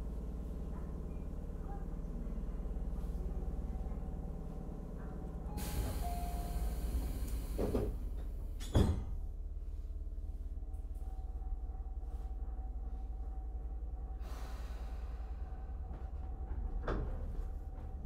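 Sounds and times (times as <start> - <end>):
train low hum: 0.0 - 18.0.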